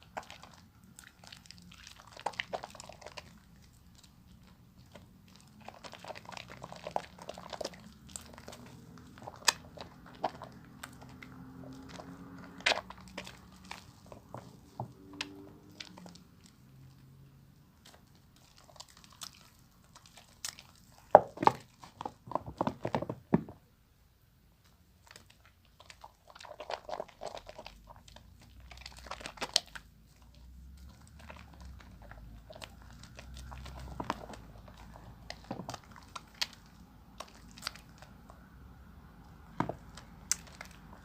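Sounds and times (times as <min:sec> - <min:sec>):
soap being lathered: 0:00.0 - 0:22.2, 0:25.0 - 0:41.0.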